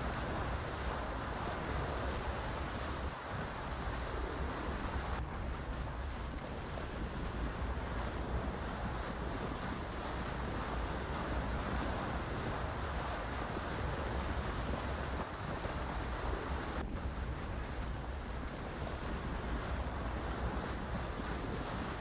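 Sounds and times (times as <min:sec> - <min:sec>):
wind and rain on microphone: 0:00.0 - 0:22.0.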